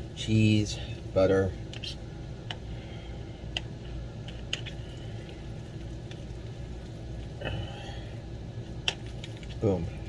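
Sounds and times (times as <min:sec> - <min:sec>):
steady low hum: 0:00.0 - 0:10.0
utensil stirring soft mixture: 0:00.6 - 0:10.0.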